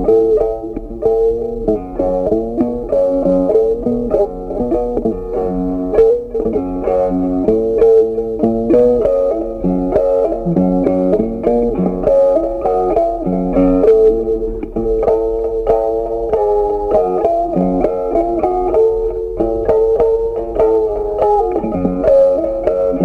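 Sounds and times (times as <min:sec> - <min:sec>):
plucked guitar tune: 0:00.0 - 0:23.0.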